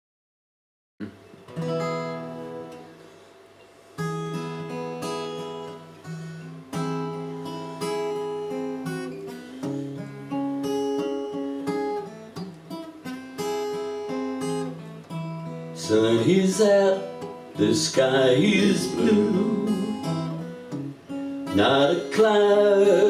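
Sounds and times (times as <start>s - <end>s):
acoustic guitar strumming and picking: 1.0s - 23.0s.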